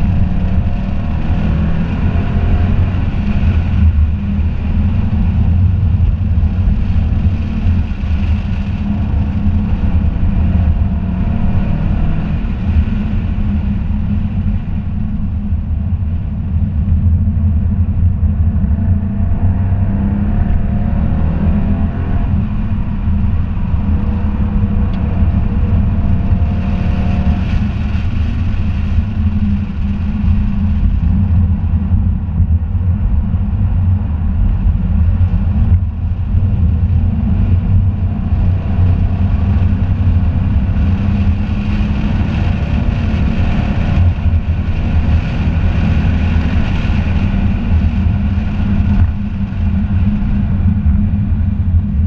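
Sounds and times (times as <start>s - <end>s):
loud deep car engine revving: 0.0s - 52.0s
road noise: 0.0s - 52.0s.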